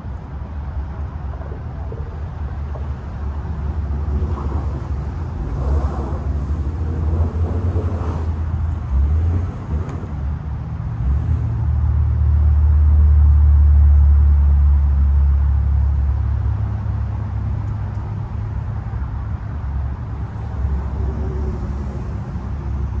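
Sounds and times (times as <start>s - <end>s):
car engine droning under load: 0.0s - 23.0s.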